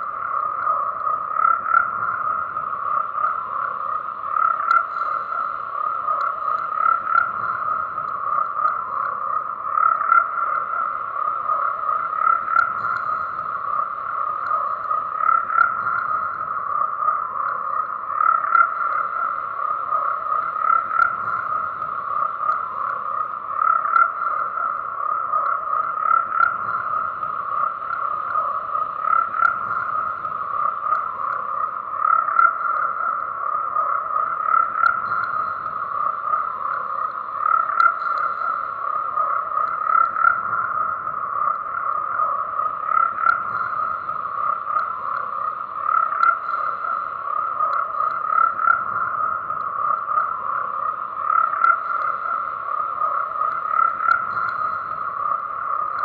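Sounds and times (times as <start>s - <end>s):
chorus of frogs croaking: 0.0s - 56.0s.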